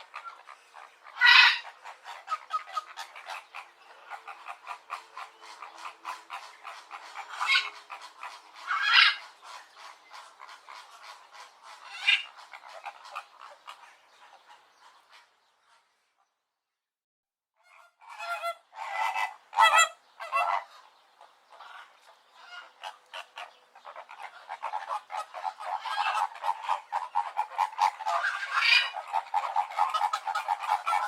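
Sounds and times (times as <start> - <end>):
flamingos calling: 0.0 - 15.6, 17.6 - 31.0.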